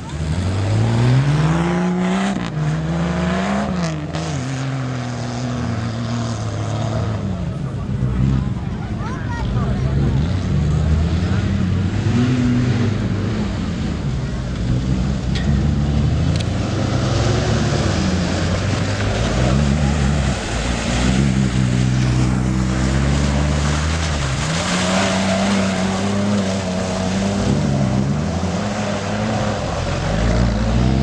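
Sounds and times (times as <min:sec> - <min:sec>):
suv engine revving: 0:00.0 - 0:08.7, 0:09.6 - 0:31.0.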